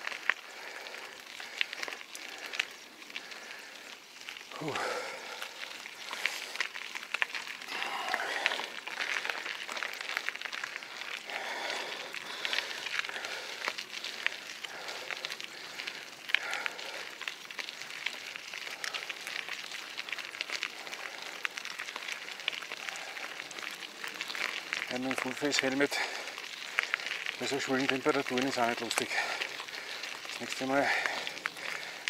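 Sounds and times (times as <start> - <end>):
bike tyres crunching on dirt: 0.0 - 32.0.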